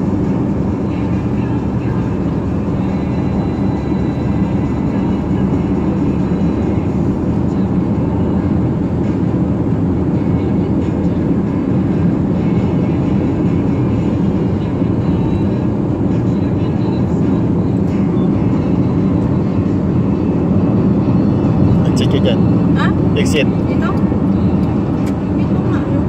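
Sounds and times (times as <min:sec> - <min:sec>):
road and engine noise in car: 0:00.0 - 0:26.0.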